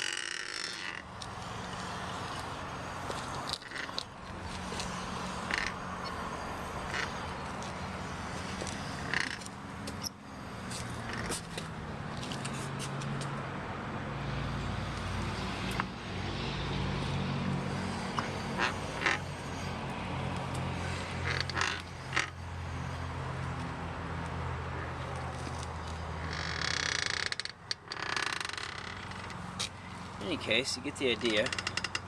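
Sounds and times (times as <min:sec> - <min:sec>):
car wheel squeaking and creaking: 0:00.0 - 0:13.4, 0:15.0 - 0:23.6, 0:24.8 - 0:32.0.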